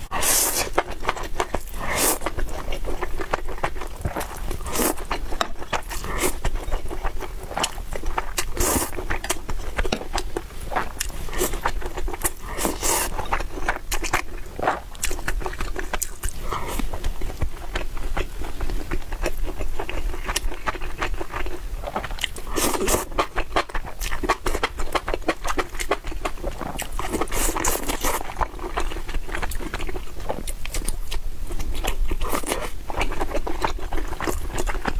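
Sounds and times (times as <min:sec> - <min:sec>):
wet chewing and crunching: 0:00.2 - 0:34.9.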